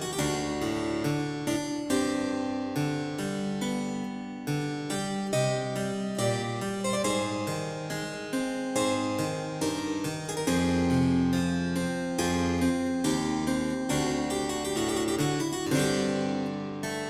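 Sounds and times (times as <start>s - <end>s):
instrumental keyboard music: 0.0s - 17.0s.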